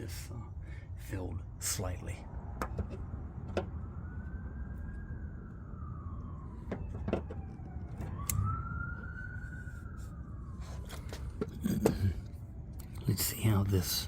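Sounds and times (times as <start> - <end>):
emergency siren wailing: 1.8 - 14.0.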